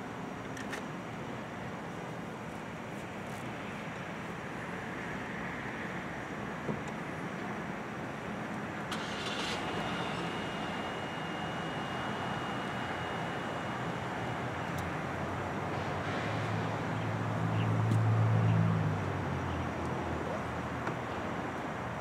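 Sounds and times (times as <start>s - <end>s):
outdoor traffic noise: 0.0s - 22.0s.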